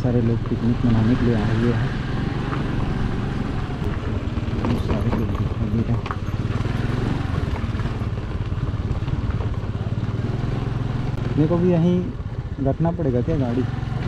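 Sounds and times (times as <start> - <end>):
road and wind noise: 0.0 - 14.0
vehicle engine humming: 0.0 - 14.0.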